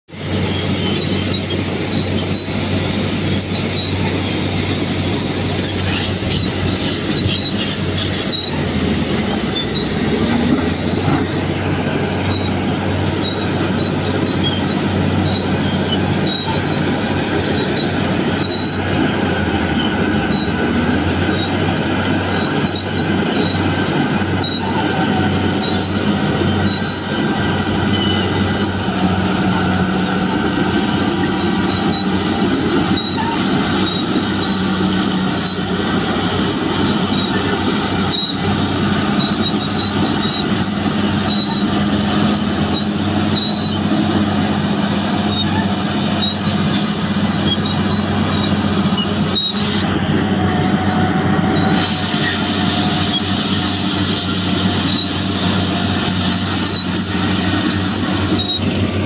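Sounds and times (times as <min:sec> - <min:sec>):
diesel engines droning: 0:00.1 - 0:59.0
steel tracks squealing: 0:00.1 - 0:59.0.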